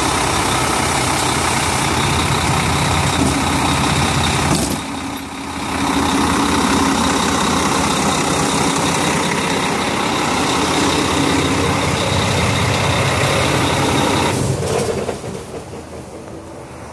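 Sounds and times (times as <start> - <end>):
truck diesel engine running: 0.0 - 16.6.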